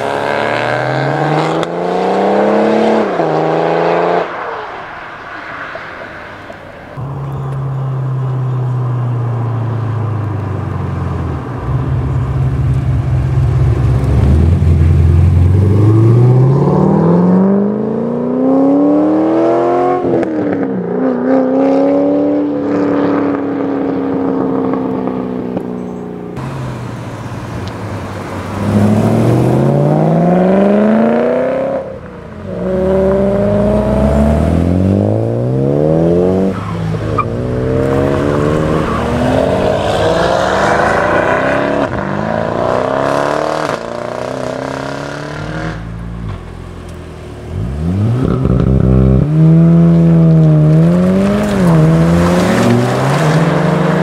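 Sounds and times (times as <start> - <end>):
car engines revving hard: 0.0 - 5.2, 7.0 - 54.0.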